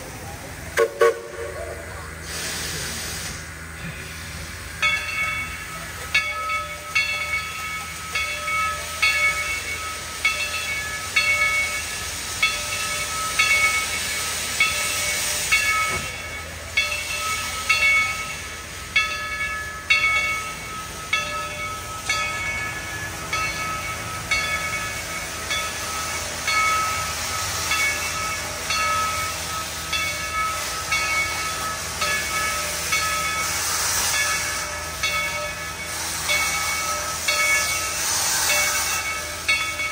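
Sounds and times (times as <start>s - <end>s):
steam hissing: 0.0s - 39.9s
locomotive bell ringing: 3.7s - 39.9s.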